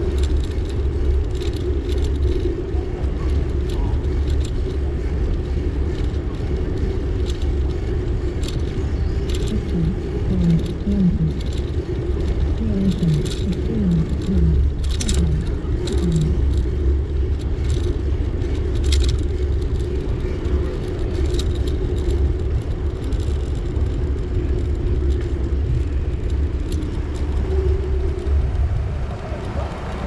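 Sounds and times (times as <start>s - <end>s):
constant hum: 0.0s - 30.0s
light rattles and clicks: 0.0s - 30.0s
vehicle engine rumbling: 0.0s - 30.0s.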